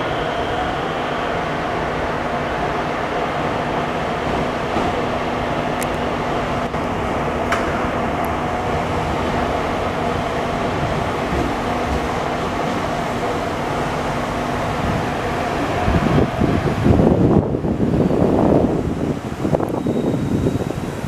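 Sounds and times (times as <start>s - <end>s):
electric train rumble and hum: 0.0s - 21.0s.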